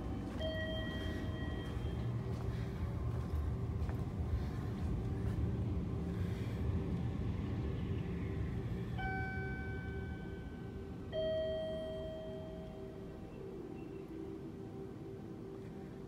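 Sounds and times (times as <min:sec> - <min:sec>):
steady ringing tone: 0:00.0 - 0:04.7, 0:07.8 - 0:16.0
train rumbling: 0:00.0 - 0:16.0.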